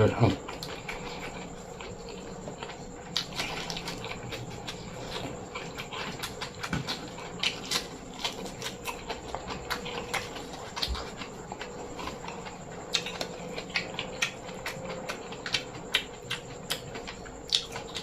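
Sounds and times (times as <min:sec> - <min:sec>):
person chewing with wet mouth sounds: 0:00.0 - 0:18.0.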